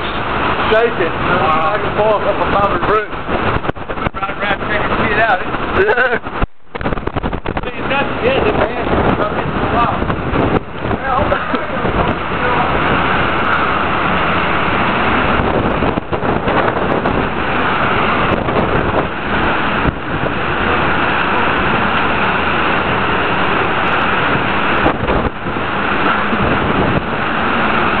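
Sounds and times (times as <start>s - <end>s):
hurricane wind rushing: 0.0s - 28.0s.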